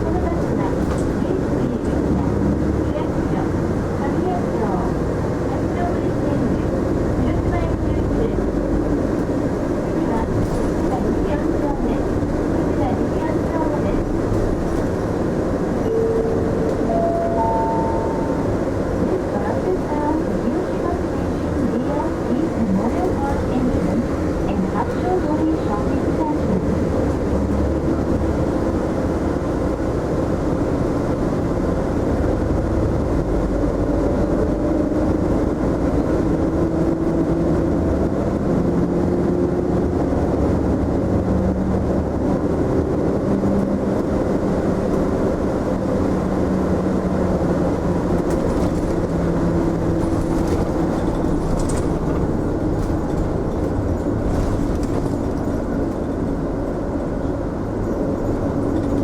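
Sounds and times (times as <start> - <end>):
bus engine changing gear: 0.0 - 59.0
road noise: 0.0 - 59.0.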